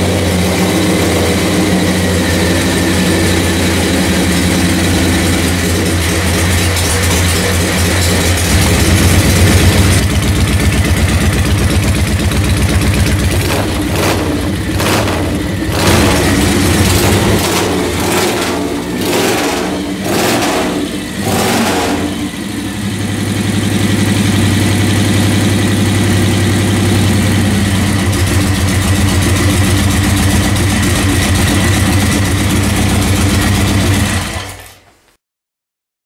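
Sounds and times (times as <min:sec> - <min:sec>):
motorcycle engine running: 0:00.0 - 0:34.6.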